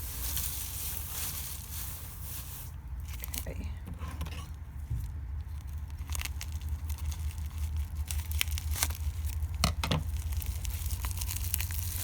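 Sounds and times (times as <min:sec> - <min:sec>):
wrapping rustling and crinkling: 0:00.0 - 0:03.6, 0:04.8 - 0:12.0.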